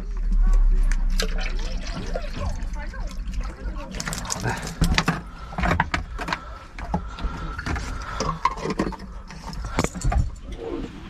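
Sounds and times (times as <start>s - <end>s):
plastic bottles crinkling and knocking: 0.0s - 10.4s.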